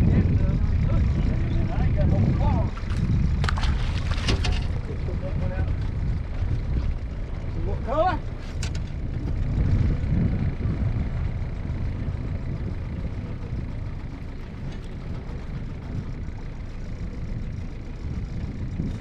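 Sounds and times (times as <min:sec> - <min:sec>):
boat motor rumbling: 0:00.0 - 0:19.0.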